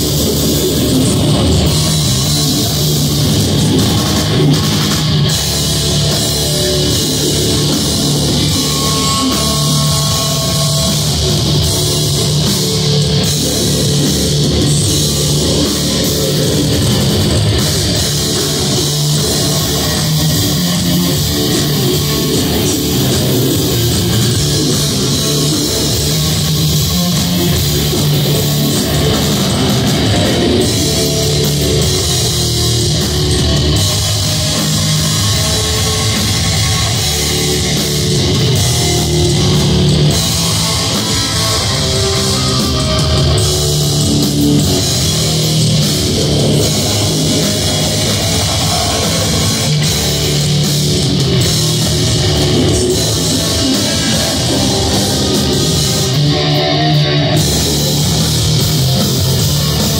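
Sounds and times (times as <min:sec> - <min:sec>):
distorted electric guitars: 0:00.0 - 0:59.9
drum kit: 0:00.0 - 0:59.9.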